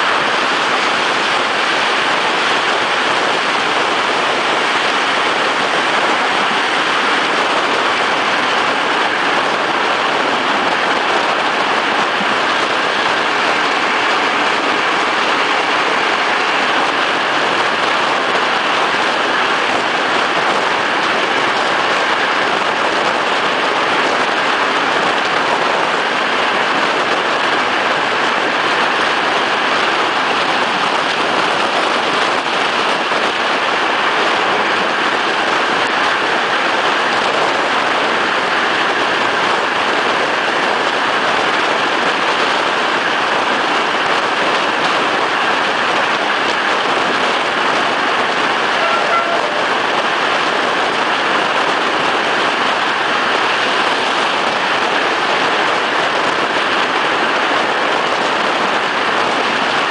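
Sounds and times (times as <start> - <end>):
train rushing at speed: 0.0 - 59.9
wind blowing across microphone: 0.0 - 59.9.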